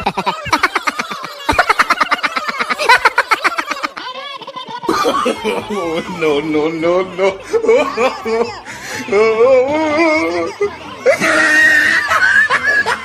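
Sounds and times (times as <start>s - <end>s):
crowd shouting and laughing: 0.0s - 13.0s.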